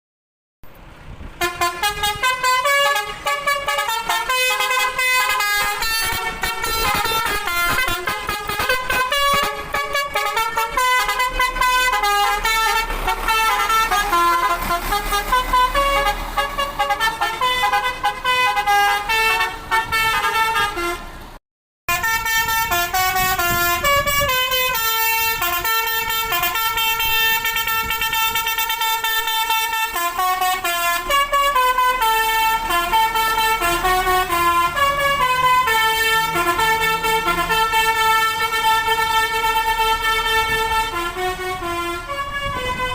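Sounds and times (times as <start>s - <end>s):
multi-tone bus horn melodies: 1.2s - 42.9s.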